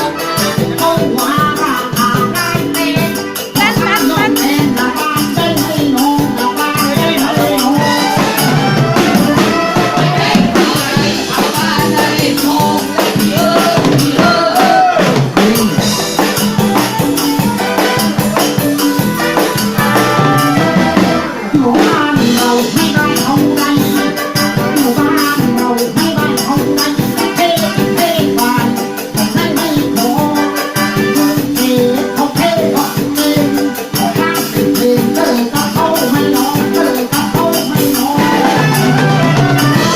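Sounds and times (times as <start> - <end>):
live band playing: 0.0 - 39.9
person singing: 0.0 - 39.9.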